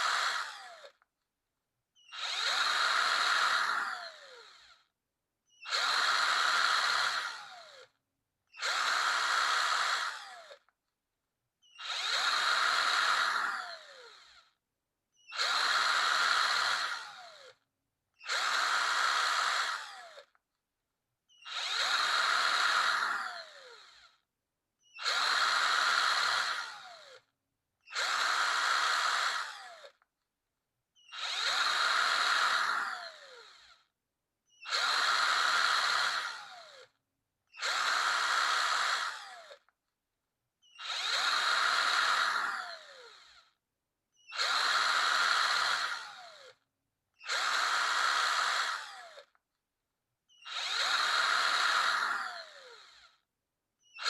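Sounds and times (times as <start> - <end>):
power drill whining: 0.0 - 1.1, 2.0 - 4.9, 5.5 - 10.8, 11.6 - 17.6, 18.2 - 20.4, 21.3 - 24.2, 24.8 - 30.1, 31.0 - 33.9, 34.5 - 39.8, 40.6 - 46.6, 47.2 - 49.4, 50.3 - 53.2, 53.8 - 54.0.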